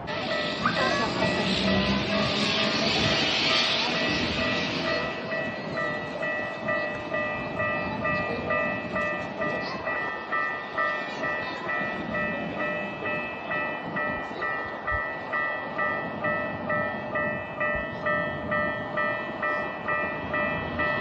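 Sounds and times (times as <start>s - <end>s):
level crossing warning bell: 0.0s - 21.0s
low train rumble: 0.0s - 21.0s.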